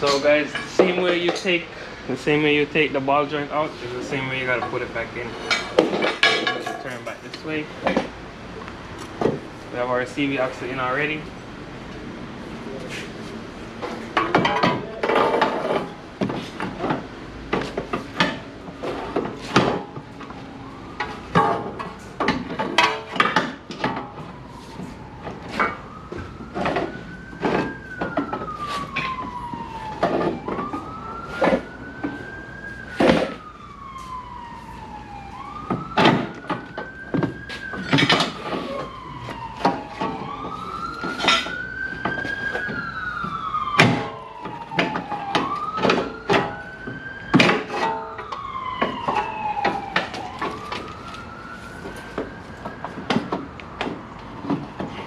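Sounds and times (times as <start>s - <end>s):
emergency siren wailing: 0.0s - 55.0s.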